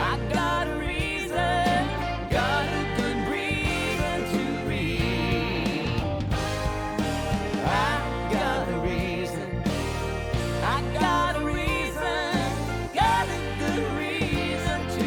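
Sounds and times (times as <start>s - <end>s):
country tune with guitar: 0.0s - 15.0s.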